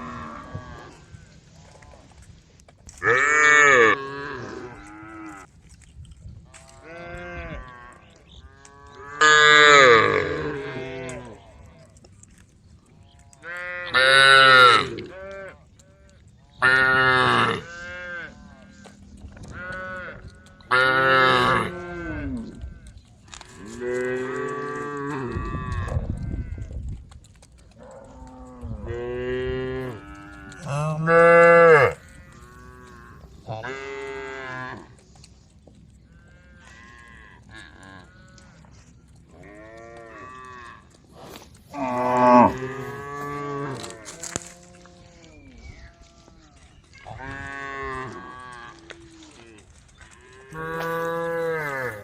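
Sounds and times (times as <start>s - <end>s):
cows mooing: 0.0s - 2.0s, 3.0s - 5.5s, 6.6s - 11.7s, 13.3s - 15.6s, 16.6s - 26.6s, 27.8s - 35.1s, 36.1s - 41.0s, 41.7s - 46.3s, 47.0s - 52.0s.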